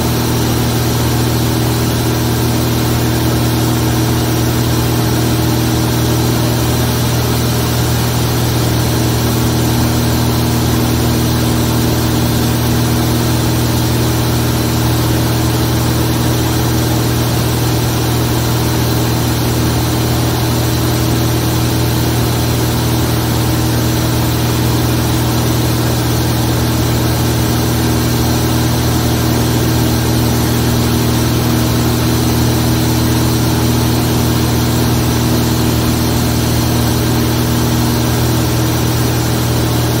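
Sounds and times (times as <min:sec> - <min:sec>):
light aircraft engine and propeller: 0:00.0 - 0:40.0.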